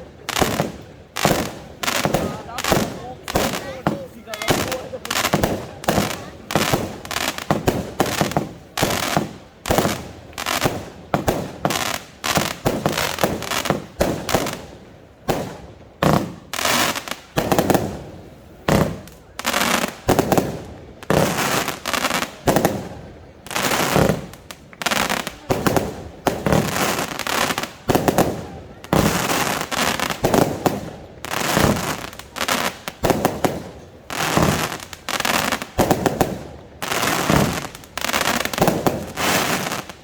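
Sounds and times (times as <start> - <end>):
firework bangs: 0.0 - 40.0.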